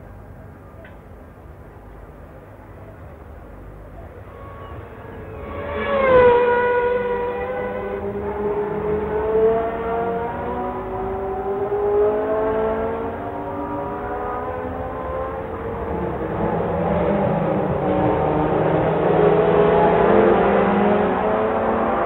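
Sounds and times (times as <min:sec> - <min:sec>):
racing car passing: 0:03.9 - 0:22.0
racing car engines at high revs: 0:04.2 - 0:22.0.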